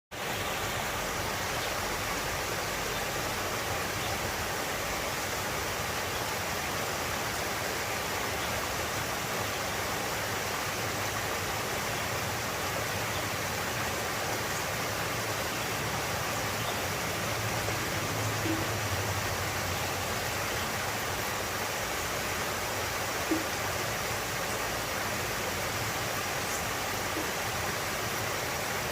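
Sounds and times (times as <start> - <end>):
stream water rushing: 0.1 - 28.9.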